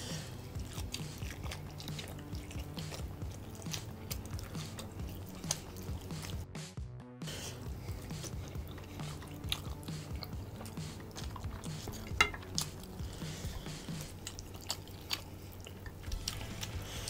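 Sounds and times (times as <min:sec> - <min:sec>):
chewing: 0:00.0 - 0:06.5, 0:07.4 - 0:17.0
fingers picking through meat: 0:00.0 - 0:06.5, 0:07.8 - 0:17.0.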